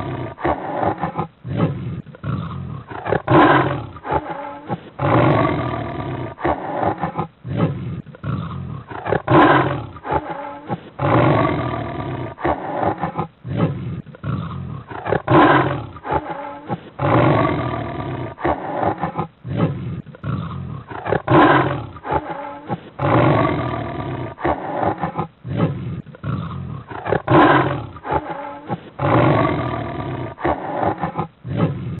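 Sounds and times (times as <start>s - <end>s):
big cat roaring and growling: 0.0s - 32.0s.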